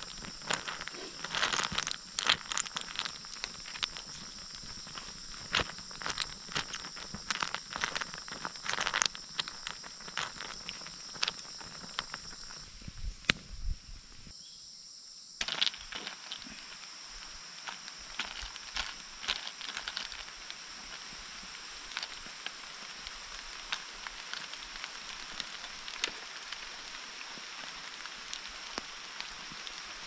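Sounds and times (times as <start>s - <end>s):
pot boiling over wood fire: 0.0s - 14.4s, 15.4s - 30.0s
insects trilling: 0.0s - 30.0s.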